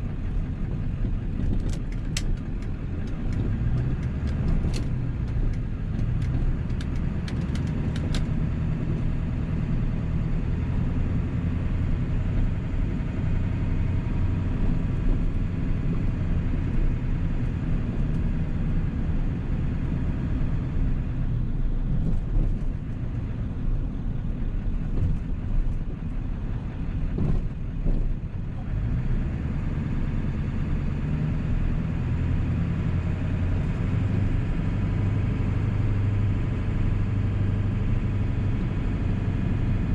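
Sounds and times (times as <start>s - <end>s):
diesel engine running: 0.0s - 39.9s
road and cabin noise: 0.0s - 39.9s.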